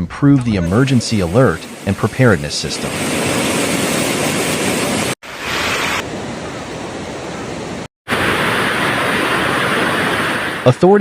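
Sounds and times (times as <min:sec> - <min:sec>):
rushing wind and water: 0:00.5 - 0:11.0.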